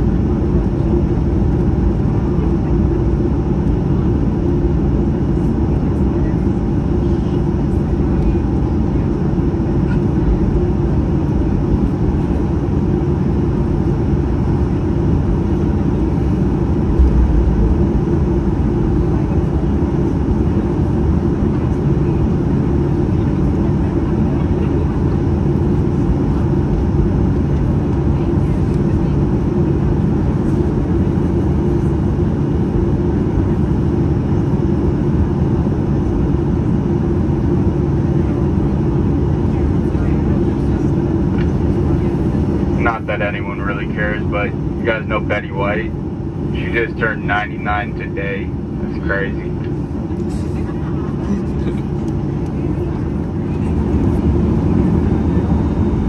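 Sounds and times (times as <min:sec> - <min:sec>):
airplane cabin engine hum: 0:00.0 - 0:56.0.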